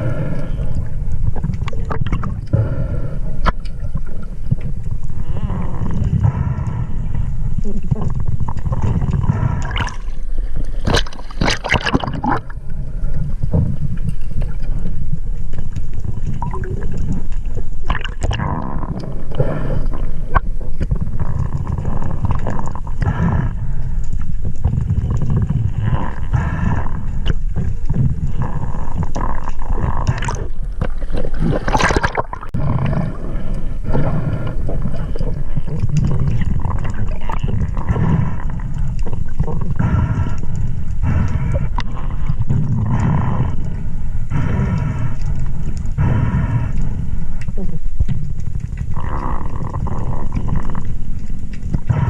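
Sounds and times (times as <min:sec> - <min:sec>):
water gurgling and bubbling: 0:00.0 - 0:14.8, 0:15.6 - 0:52.0
low underwater rumble: 0:00.0 - 0:52.0.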